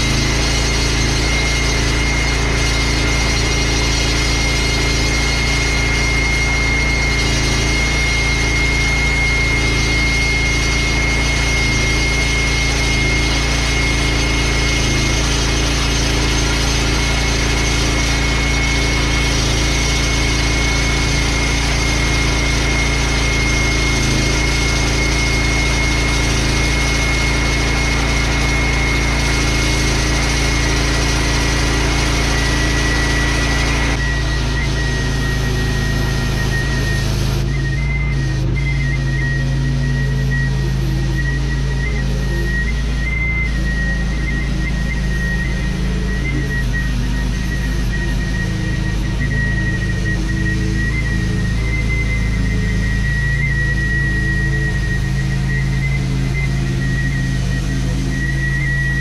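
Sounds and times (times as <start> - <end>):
concrete saw cutting concrete: 0.0 - 59.0.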